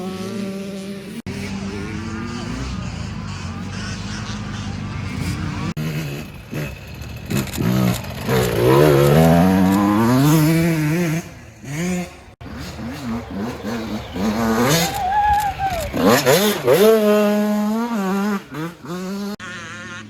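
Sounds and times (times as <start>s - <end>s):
bike engine at choppy pitch: 0.0s - 20.0s
dirt bike engine revving: 0.0s - 20.0s.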